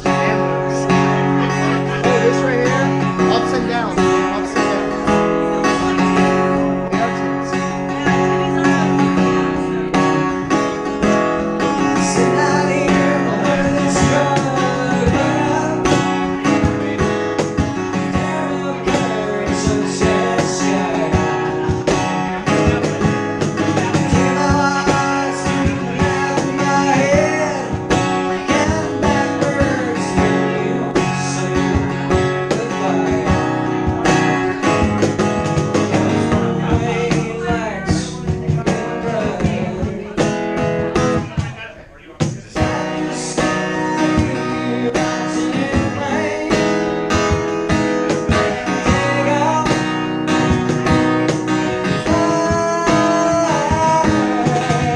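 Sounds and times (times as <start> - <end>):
acoustic guitar strumming: 0.0 - 54.9
cajon beat: 0.0 - 54.9
man singing: 0.0 - 54.9.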